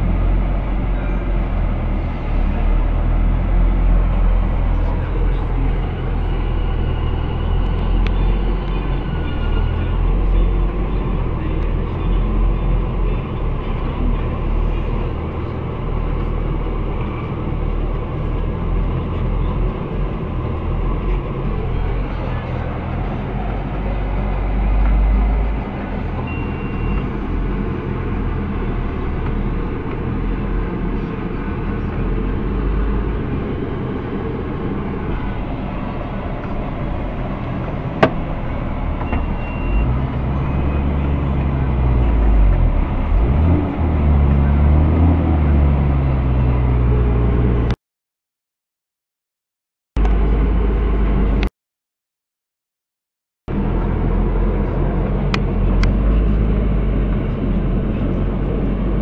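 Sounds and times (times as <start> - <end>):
tractor diesel engine running: 0.0 - 47.4, 53.5 - 59.0.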